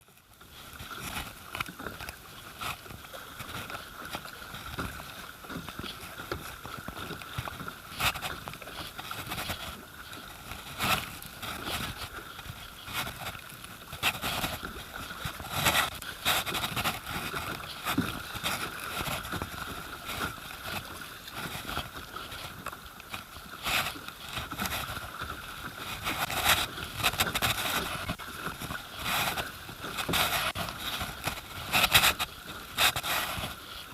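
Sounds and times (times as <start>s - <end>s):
river water sloshing and gurgling: 0.0s - 33.9s.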